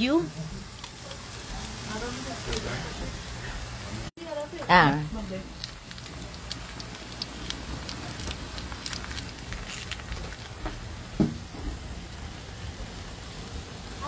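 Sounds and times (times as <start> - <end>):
coals crackling and popping: 0.0 - 14.0
meat sizzling on grill: 0.0 - 14.0.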